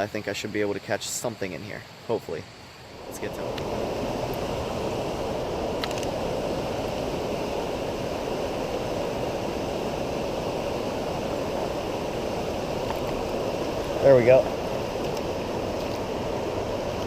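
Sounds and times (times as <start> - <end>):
creek water rushing: 1.0 - 17.0.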